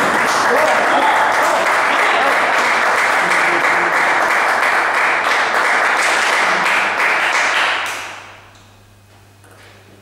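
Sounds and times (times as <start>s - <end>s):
spectators clapping: 0.0s - 8.5s.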